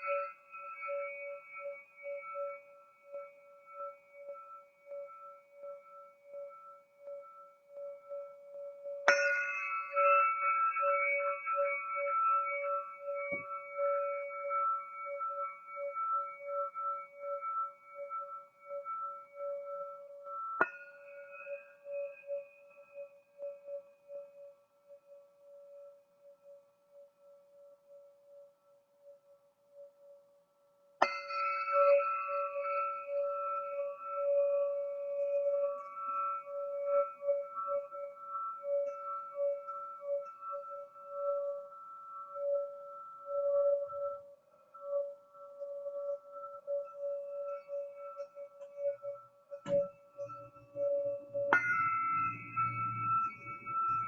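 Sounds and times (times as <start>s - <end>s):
crystal singing pyramid ringing: 0.0s - 30.4s, 31.0s - 54.0s.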